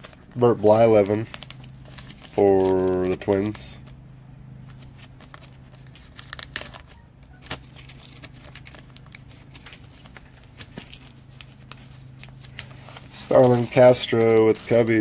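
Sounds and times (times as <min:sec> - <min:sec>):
card sleeves crinkling: 0:00.0 - 0:15.0
steady low hum: 0:00.0 - 0:15.0.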